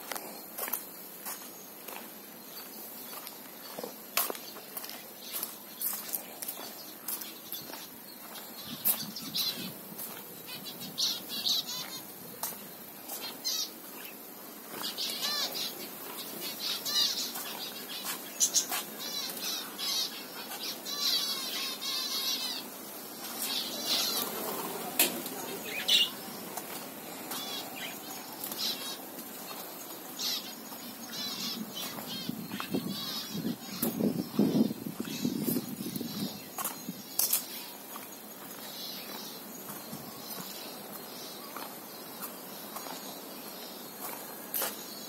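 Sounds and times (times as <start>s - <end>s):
cage birds chirping and chattering: 0.1s - 45.0s.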